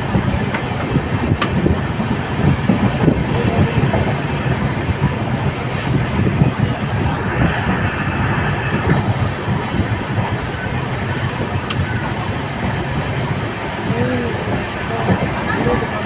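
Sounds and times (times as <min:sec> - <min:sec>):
rail noise: 0:00.0 - 0:16.0
train rumbling on track: 0:00.0 - 0:16.0.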